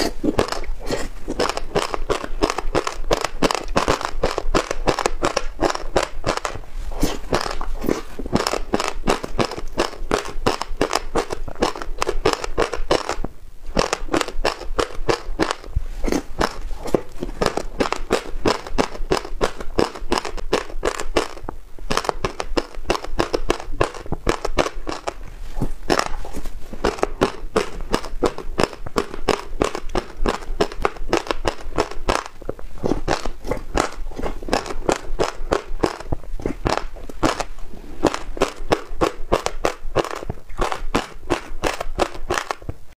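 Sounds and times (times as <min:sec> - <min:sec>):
chewing crackling crunches: 0:00.0 - 0:42.8.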